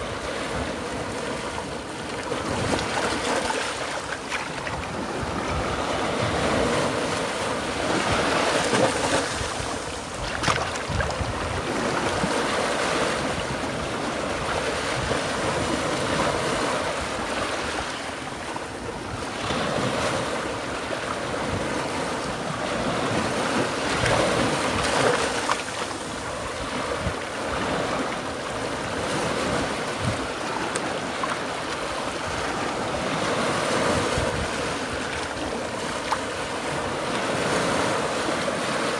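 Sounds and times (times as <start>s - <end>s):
waves washing over sand and rocks: 0.0s - 38.9s.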